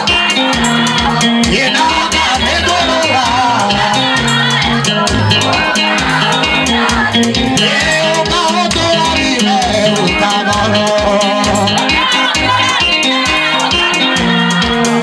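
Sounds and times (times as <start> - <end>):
dance music with steady beat: 0.0 - 15.0
person singing: 0.0 - 15.0.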